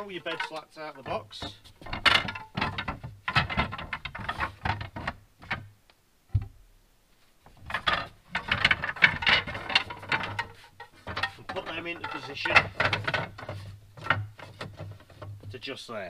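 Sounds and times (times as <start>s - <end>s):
wooden slats clattering: 0.0s - 6.6s, 7.4s - 15.7s.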